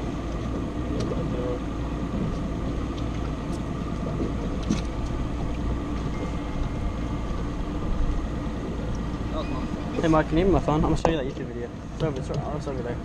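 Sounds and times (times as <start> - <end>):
boat motor idling: 0.0 - 13.0.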